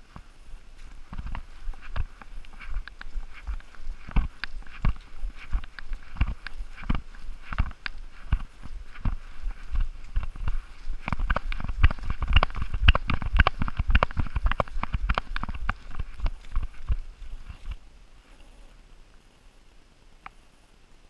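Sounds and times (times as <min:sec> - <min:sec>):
dog paws thumping on leaves: 0:00.0 - 0:17.8.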